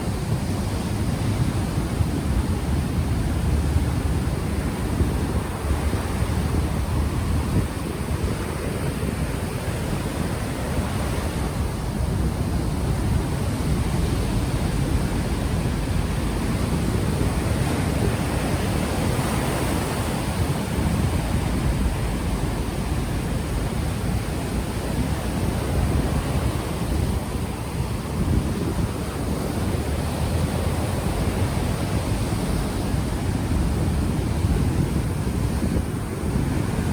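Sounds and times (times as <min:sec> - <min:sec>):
ocean waves washing onto shore: 0:00.0 - 0:36.9
wind buffeting microphone: 0:00.0 - 0:36.9.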